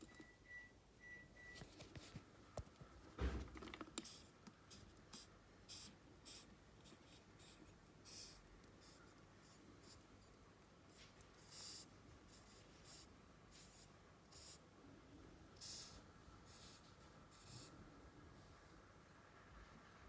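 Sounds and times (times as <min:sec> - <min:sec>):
faint scratching and rustling: 0:01.6 - 0:14.6, 0:15.6 - 0:18.8.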